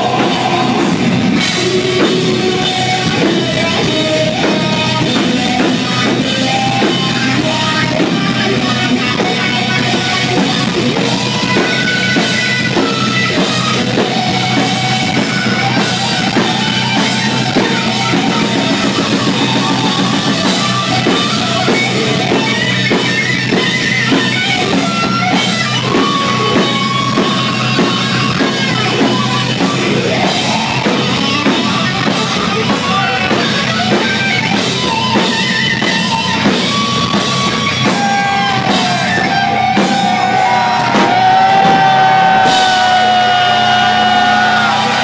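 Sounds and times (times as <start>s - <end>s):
heavy metal band playing: 0.0s - 45.0s.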